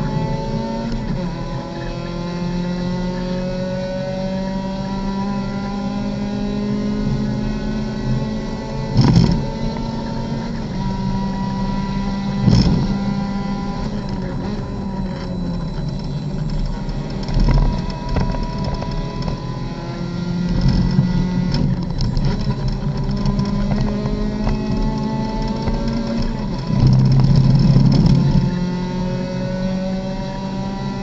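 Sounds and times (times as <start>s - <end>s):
race car engine: 0.0s - 31.0s.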